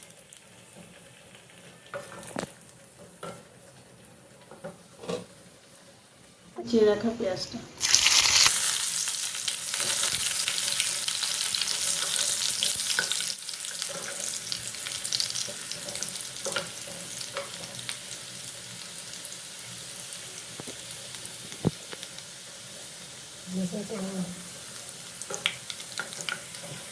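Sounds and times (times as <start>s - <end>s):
onion sizzling in hot oil: 0.0s - 26.9s.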